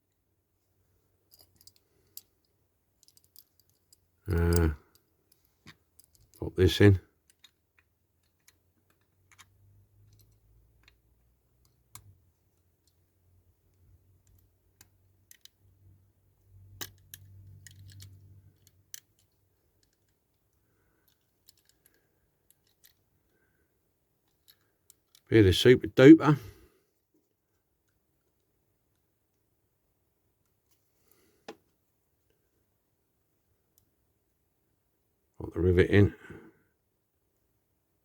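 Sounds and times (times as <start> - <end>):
faint clicks of toy parts: 0.0 - 25.7, 26.4 - 32.8, 33.4 - 35.4.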